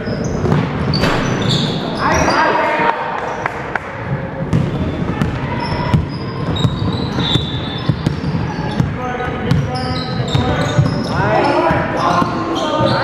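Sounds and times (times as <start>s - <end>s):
basketball bouncing in gym: 0.1s - 2.3s, 4.1s - 13.0s.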